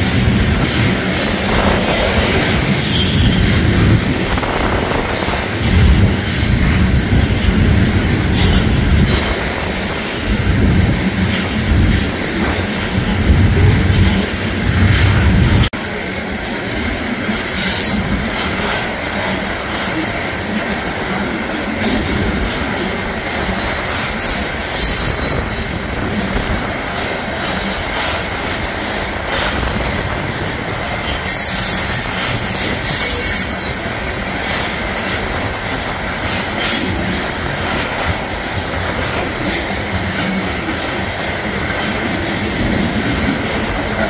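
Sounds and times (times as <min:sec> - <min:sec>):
freight cars rumbling over rails: 0:00.0 - 0:44.0.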